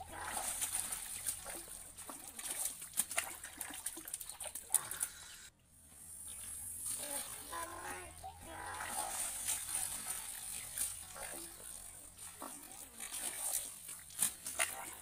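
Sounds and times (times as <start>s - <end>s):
fish thrashing and splashing: 0.0s - 5.2s, 6.1s - 15.0s.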